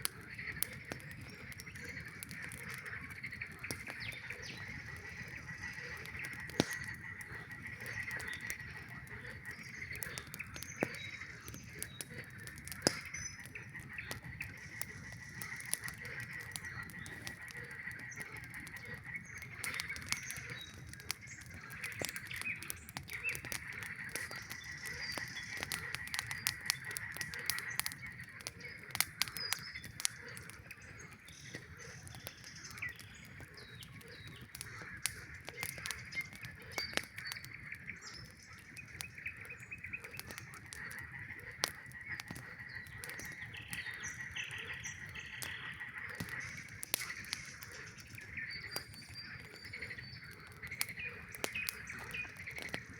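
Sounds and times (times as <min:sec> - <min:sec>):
campfire crackling and popping: 0:00.0 - 0:52.9
frogs calling: 0:00.0 - 0:52.9.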